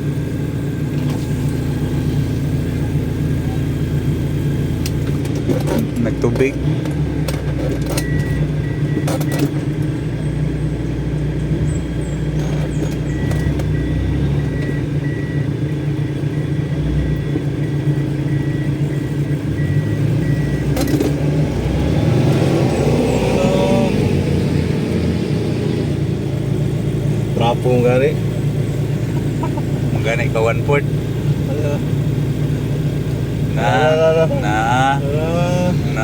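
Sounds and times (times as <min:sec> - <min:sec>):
off-road vehicle engine under load: 0:00.0 - 0:36.0.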